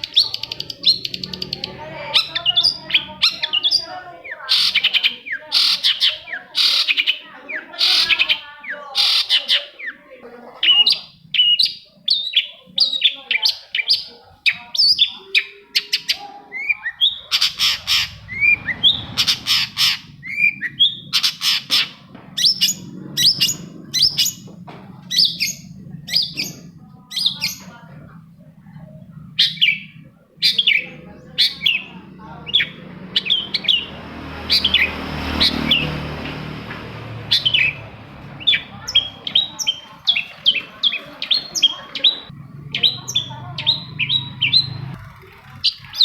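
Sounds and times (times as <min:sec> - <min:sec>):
shrike harsh chattering song: 0:00.0 - 0:10.0, 0:12.4 - 0:46.0.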